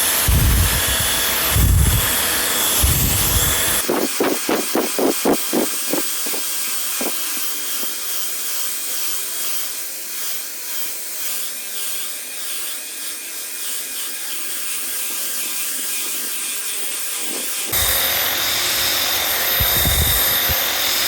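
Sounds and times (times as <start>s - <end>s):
belt sander on wood: 0.0s - 21.0s.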